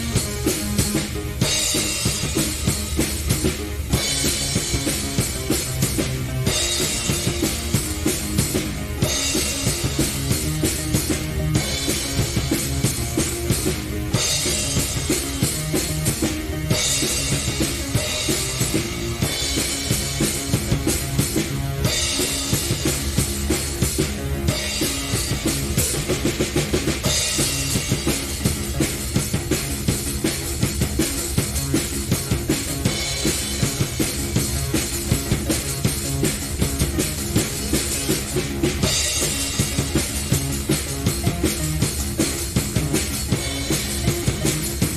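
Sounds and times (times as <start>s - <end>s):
drum kit driving beat: 0.0s - 44.9s
sustained keyboard chords: 0.0s - 44.9s.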